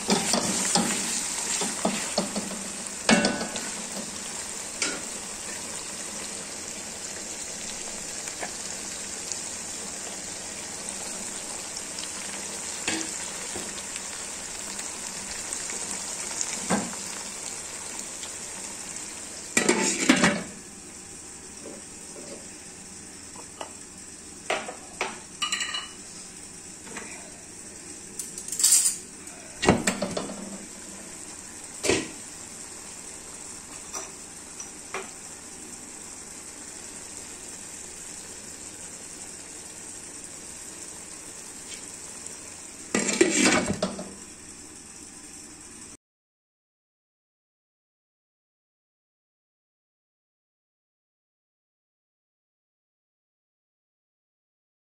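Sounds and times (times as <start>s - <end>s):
curry sizzling in a pot: 0.0s - 46.0s.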